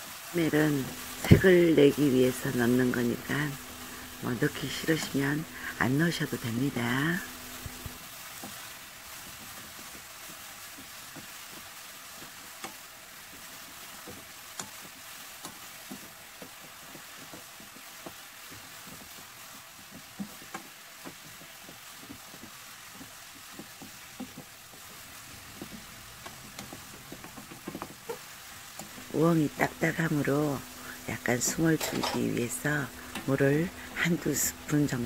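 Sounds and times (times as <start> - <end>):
vegetables sizzling in a pan: 0.0 - 35.0
wooden spatula tapping and scraping: 2.5 - 5.6, 6.2 - 35.0.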